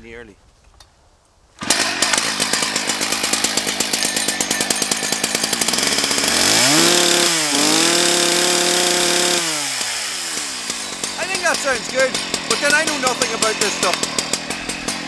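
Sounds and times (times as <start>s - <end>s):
chainsaw idling and revving: 1.6s - 15.0s.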